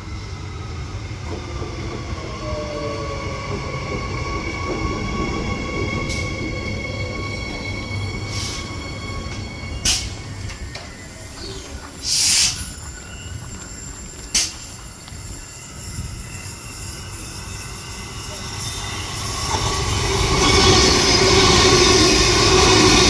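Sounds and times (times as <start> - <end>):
electric train rumbling: 0.0 - 23.0.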